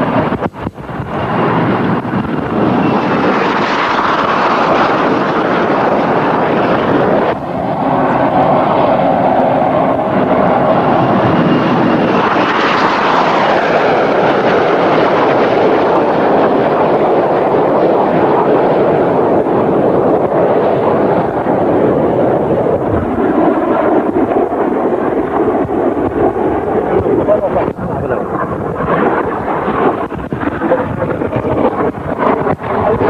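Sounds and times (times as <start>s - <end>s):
jet aircraft passing overhead: 0.0s - 33.0s.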